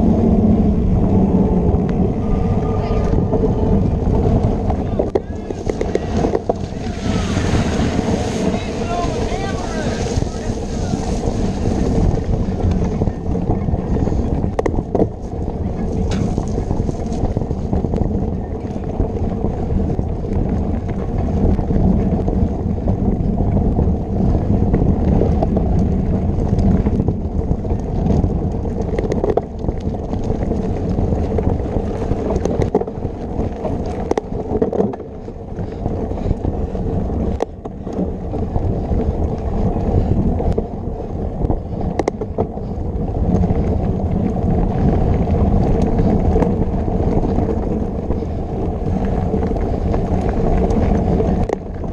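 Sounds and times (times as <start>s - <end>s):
bike knocking and rattling: 0.0s - 51.9s
tyres rumbling on dirt trail: 0.0s - 51.9s
wind buffeting microphone: 0.0s - 51.9s.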